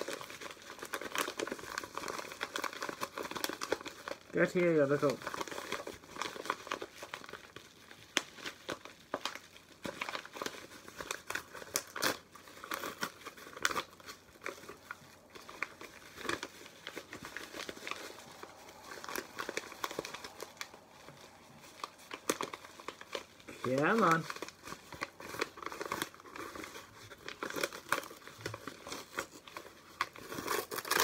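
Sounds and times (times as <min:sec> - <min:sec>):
paper wrapping crumpled and torn: 0:00.0 - 0:31.0.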